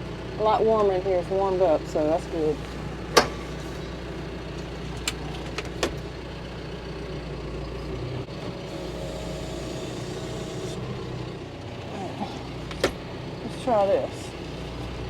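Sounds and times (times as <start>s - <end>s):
tractor engine from inside cab: 0.0s - 15.0s.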